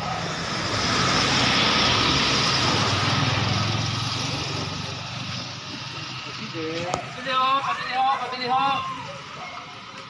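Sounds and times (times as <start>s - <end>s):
small motorcycle engine passing: 0.0s - 10.0s.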